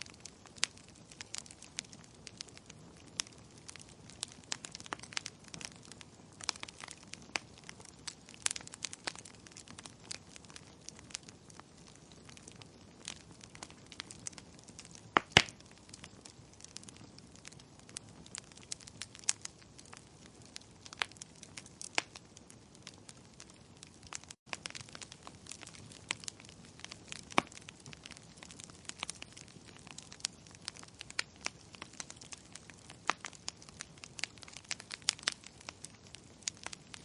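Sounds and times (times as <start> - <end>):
soft hiss of fire: 0.0 - 37.0
wood fire crackling: 0.0 - 37.0.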